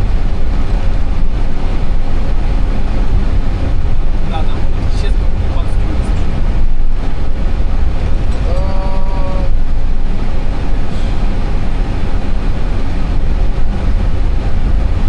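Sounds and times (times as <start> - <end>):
airplane taxiing rumble: 0.0 - 15.0.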